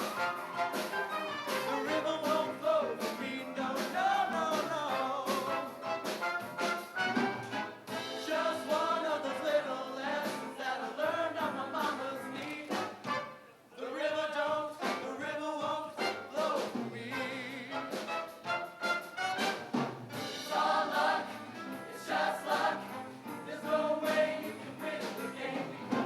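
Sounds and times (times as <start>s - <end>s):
choir singing in parts: 0.0s - 6.2s, 7.8s - 18.6s, 20.2s - 26.0s
musical backing: 0.0s - 26.0s.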